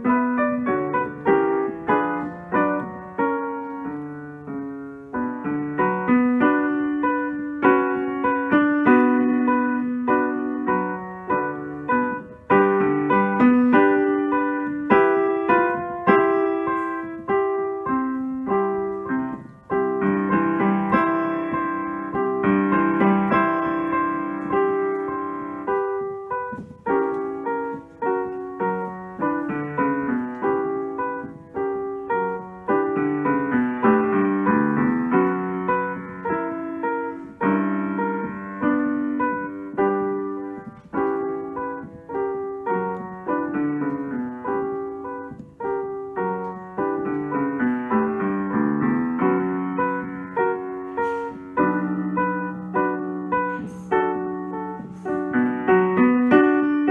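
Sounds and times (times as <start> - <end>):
solo piano piece: 0.0 - 56.9.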